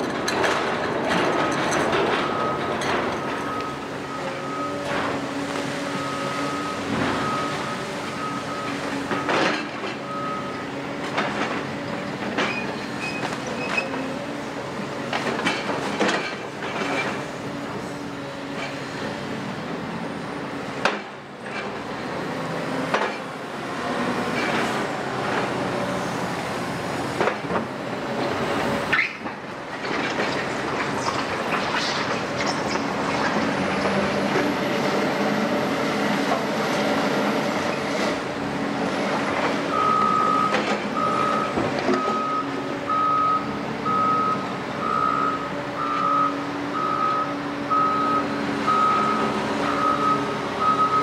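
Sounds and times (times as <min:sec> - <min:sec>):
excavator diesel engine under load: 0:00.0 - 0:51.0.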